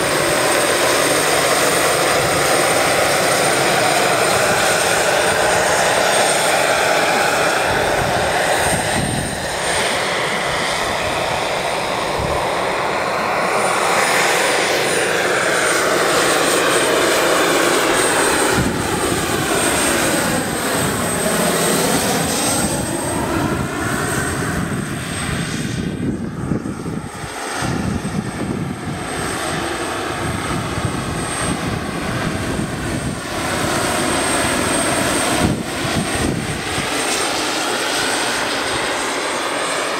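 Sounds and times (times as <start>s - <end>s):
helicopter rotor chop: 0.0s - 39.9s
turbine high whine: 0.0s - 39.9s.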